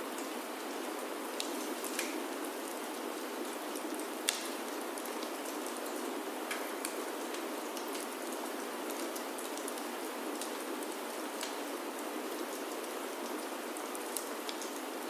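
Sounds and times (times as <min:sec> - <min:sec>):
rain on a wooden roof: 0:00.0 - 0:15.0
wood fire crackling: 0:00.1 - 0:14.9.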